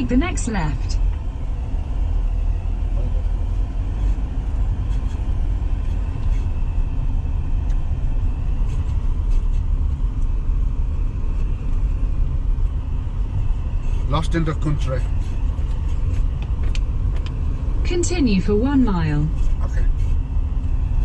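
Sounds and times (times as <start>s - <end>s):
road and engine rumble in van: 0.0s - 21.0s.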